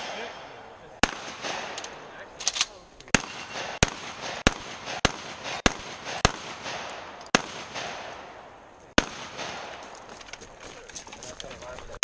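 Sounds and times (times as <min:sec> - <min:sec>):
rifle shots with echo: 0:00.0 - 0:10.1.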